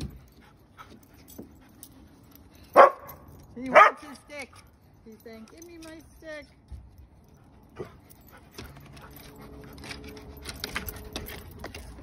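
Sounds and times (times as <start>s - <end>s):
dogs panting: 0.0s - 3.2s, 4.4s - 12.0s.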